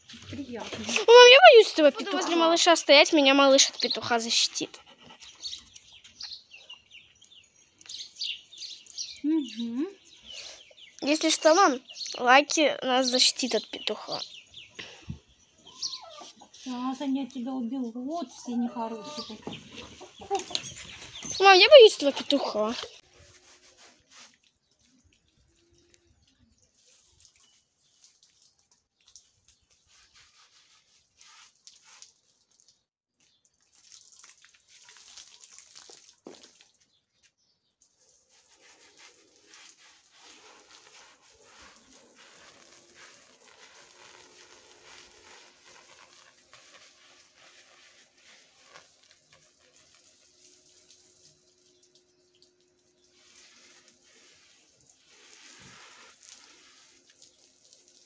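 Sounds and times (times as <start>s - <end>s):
water trickling and dripping: 0.0s - 18.5s, 23.9s - 37.2s, 37.8s - 58.0s.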